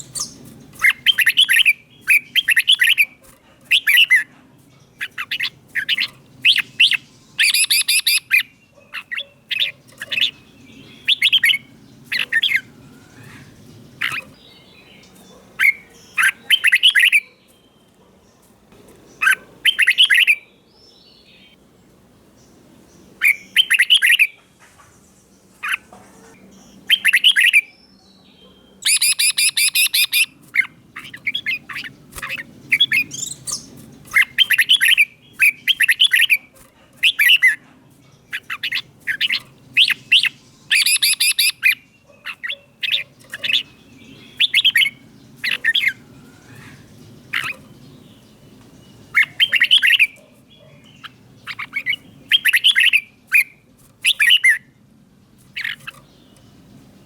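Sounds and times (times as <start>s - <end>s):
bulbul singing whistled phrases: 0.0s - 4.3s, 5.0s - 17.9s, 19.2s - 21.6s, 23.2s - 24.4s, 26.8s - 37.6s, 38.3s - 48.1s, 49.0s - 54.7s.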